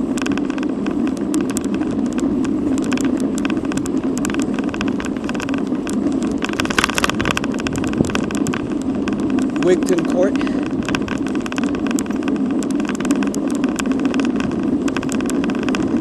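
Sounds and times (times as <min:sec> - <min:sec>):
bicycle rattling clicks: 0:00.0 - 0:16.0
bicycle tyres on asphalt: 0:00.0 - 0:16.0
wind noise: 0:00.0 - 0:16.0.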